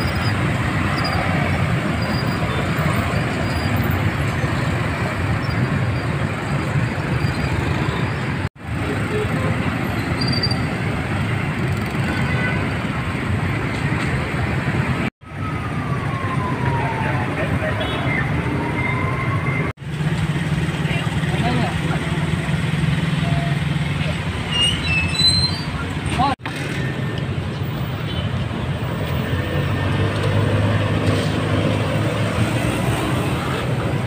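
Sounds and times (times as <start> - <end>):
motorbike and scooter traffic: 0.0 - 34.0.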